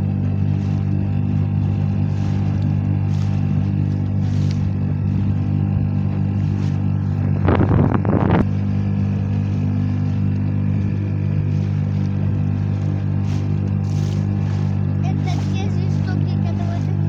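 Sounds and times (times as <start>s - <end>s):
boat engine drone: 0.0s - 17.0s.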